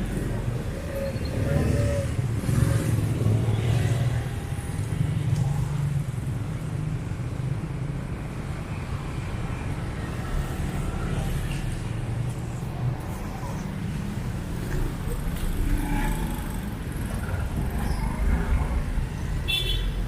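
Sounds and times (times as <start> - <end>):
road traffic rumbling past: 0.0 - 20.0.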